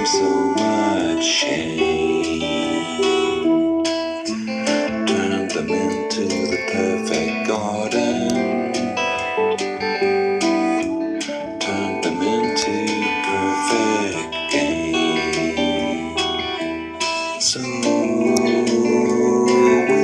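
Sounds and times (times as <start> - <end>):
plucked guitar notes: 0.0 - 20.0.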